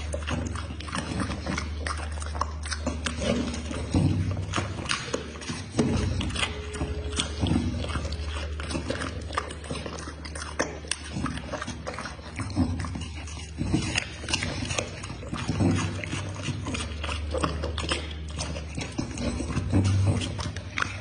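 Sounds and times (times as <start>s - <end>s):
dog chewing food: 0.0s - 21.0s.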